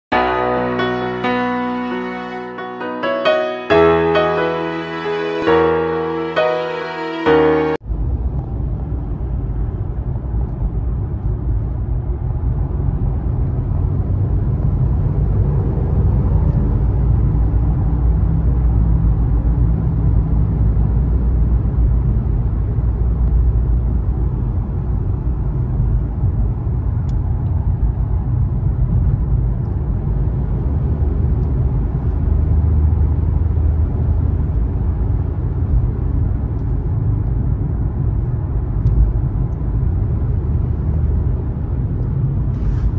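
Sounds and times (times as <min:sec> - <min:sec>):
car road noise from inside cabin: 0:07.8 - 0:42.9.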